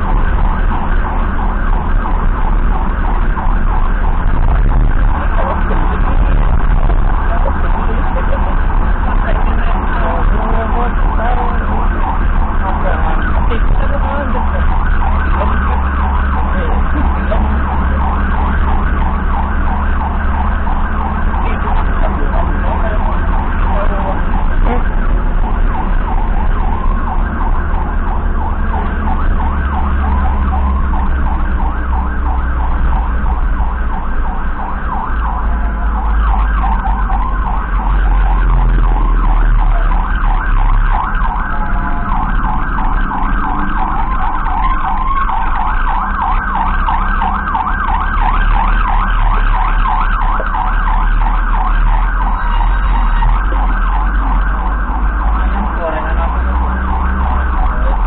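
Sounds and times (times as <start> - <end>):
siren warbling: 0.0 - 58.0
vehicle engine and road noise: 0.0 - 58.0.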